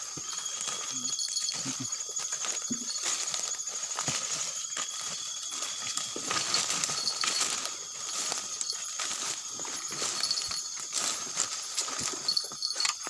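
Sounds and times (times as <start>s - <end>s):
footsteps: 0.0s - 13.0s
insects trilling: 0.0s - 13.0s
rustle of leaves and twigs: 0.0s - 13.0s.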